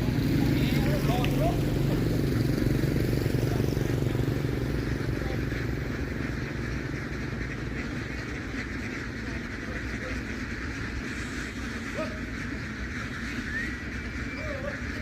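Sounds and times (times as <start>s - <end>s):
ducks quacking: 0.0s - 15.0s
engine running with low rumble: 0.0s - 15.0s.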